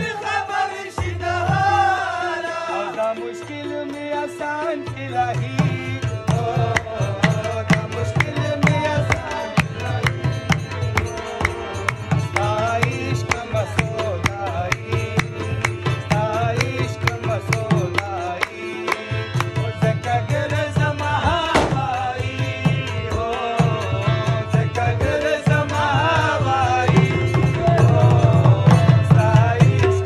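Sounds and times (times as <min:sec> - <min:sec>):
harmonium melody: 0:00.0 - 0:30.0.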